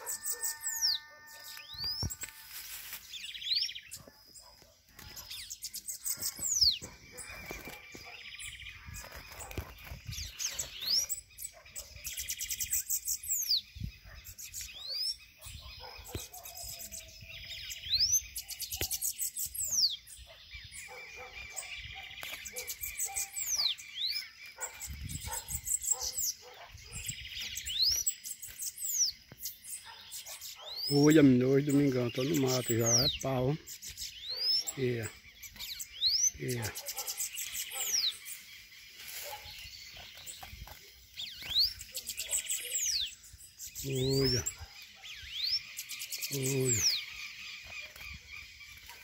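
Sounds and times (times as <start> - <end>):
birds trilling and whistling: 0.0 - 49.0.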